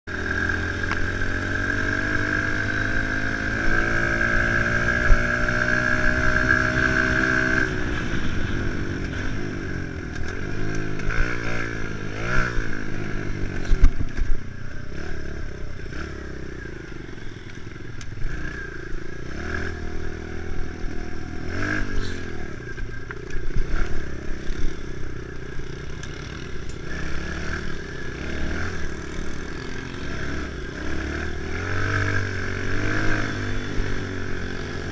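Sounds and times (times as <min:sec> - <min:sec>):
small motorbike engine revving: 0:00.1 - 0:34.9.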